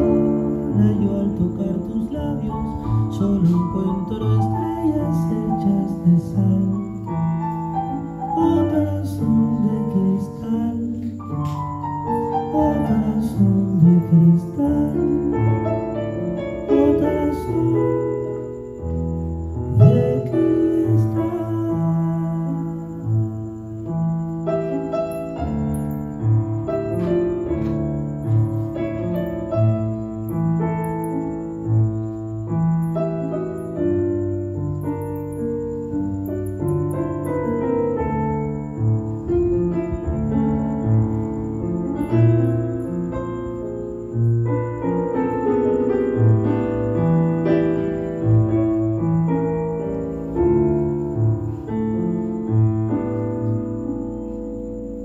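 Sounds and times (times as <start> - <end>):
keyboard playing piano sound: 0.0 - 55.0.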